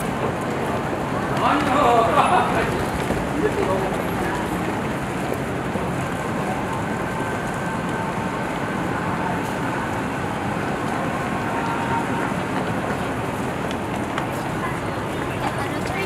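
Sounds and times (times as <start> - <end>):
pedestrian crowd noise: 0.0 - 16.0
road traffic: 0.0 - 16.0.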